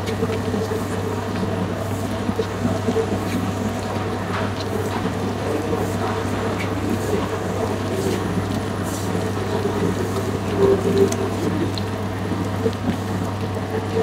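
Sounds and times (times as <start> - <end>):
dough mixer motor humming: 0.0 - 14.0.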